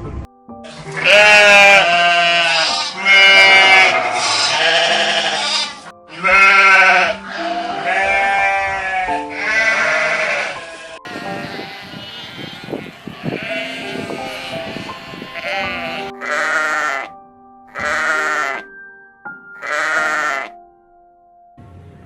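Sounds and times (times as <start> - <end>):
background music: 0.0 - 22.0
sheep bleating: 0.7 - 17.1, 17.7 - 18.7, 19.6 - 20.6.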